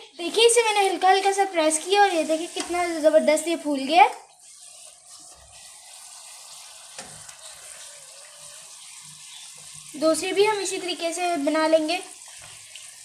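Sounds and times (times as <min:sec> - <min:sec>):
deep-frying sizzle: 0:00.6 - 0:13.0.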